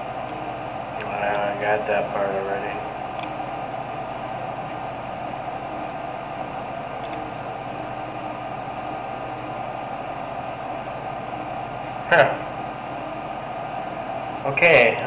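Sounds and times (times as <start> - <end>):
low constant hum: 0.0 - 15.0.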